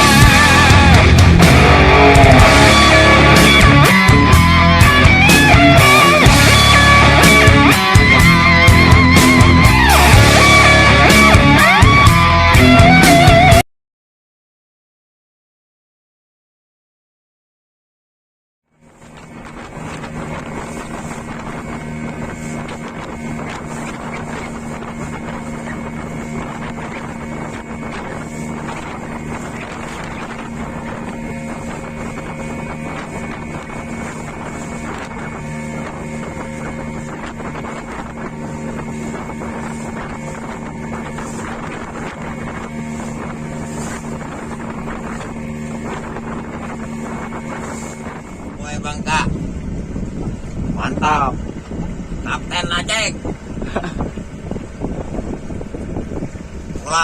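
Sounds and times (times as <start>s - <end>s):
boat engine running: 0.0s - 13.6s, 18.7s - 57.0s
wind on microphone: 0.0s - 13.6s, 18.8s - 57.0s.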